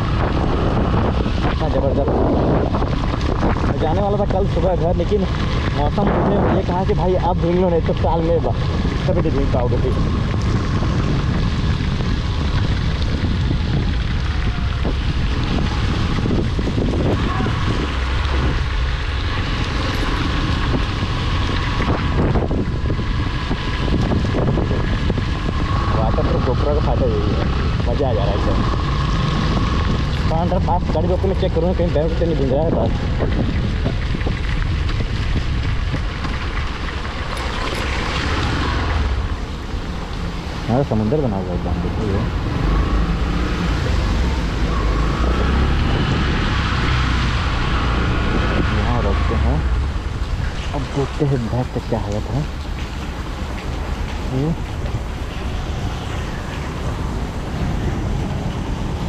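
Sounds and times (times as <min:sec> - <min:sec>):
motorcycle engine: 0:00.0 - 0:59.0
rain and tyre spray: 0:00.0 - 0:59.0
wind rushing on microphone: 0:00.0 - 0:59.0.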